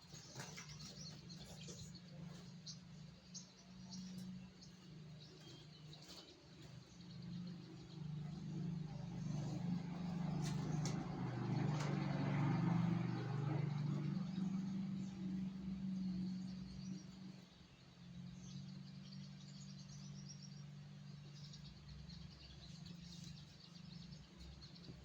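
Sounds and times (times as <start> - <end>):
low engine-like drone: 0.0 - 25.0.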